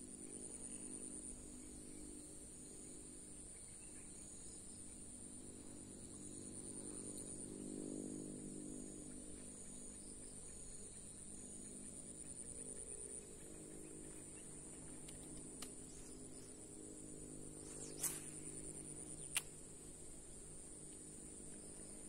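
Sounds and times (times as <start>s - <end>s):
faint pulsing insect: 0.0s - 22.0s
high-pitched insect chorus: 0.0s - 22.0s
low hum: 0.0s - 22.0s.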